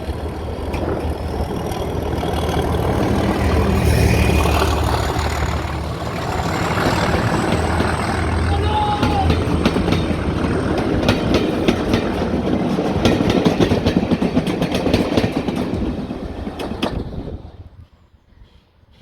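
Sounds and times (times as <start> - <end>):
wheels clicking over rail joints: 0.0 - 3.9, 4.6 - 17.4
diesel train passing: 0.0 - 19.0.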